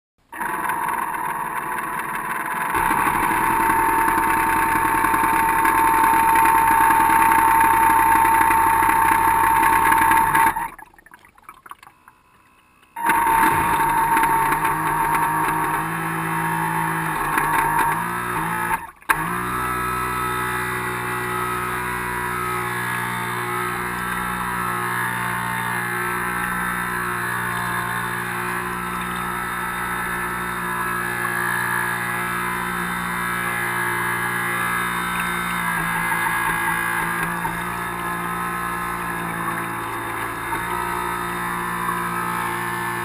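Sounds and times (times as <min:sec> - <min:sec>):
electric motors whining: 0:00.3 - 0:10.8, 0:11.8 - 0:43.0
water noise from hull: 0:00.5 - 0:43.0.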